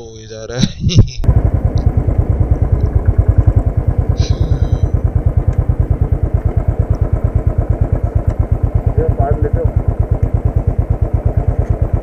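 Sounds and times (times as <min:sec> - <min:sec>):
motorcycle engine idling: 0:01.2 - 0:12.0.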